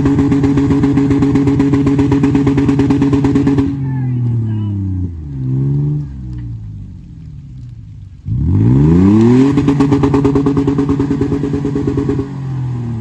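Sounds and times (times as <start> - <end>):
truck engine revving: 0.0 - 7.1, 8.2 - 13.0.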